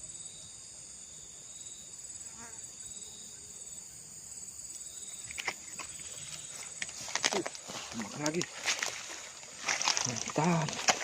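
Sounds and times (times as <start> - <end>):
crickets trilling: 0.0 - 11.0
pulsing insect chirp: 0.0 - 11.0.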